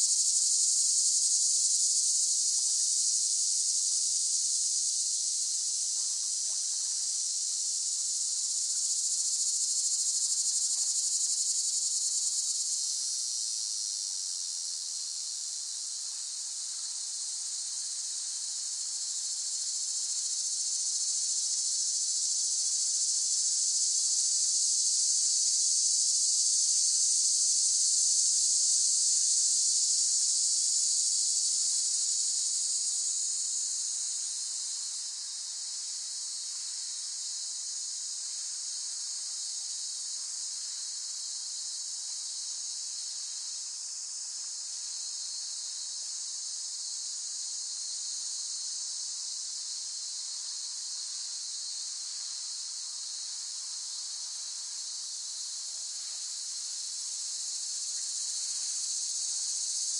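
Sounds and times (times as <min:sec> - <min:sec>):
cicadas buzzing: 0:00.0 - 0:05.4, 0:08.0 - 0:14.8, 0:15.6 - 0:59.9.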